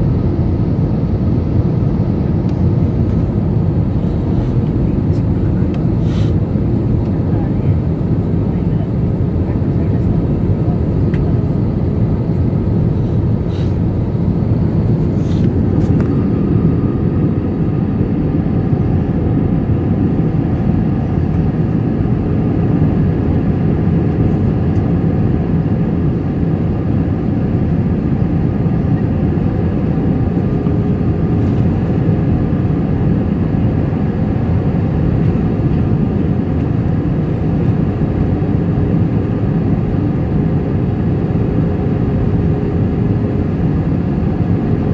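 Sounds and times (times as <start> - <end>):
jet engines and airflow rush: 0.0 - 44.9.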